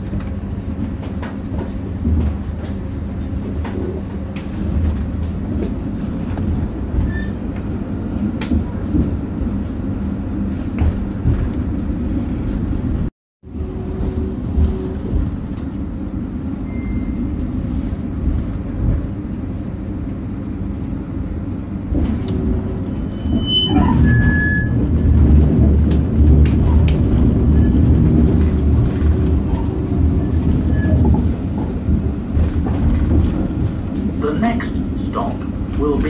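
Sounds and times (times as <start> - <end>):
tram rumbling on rails: 0.0 - 36.0.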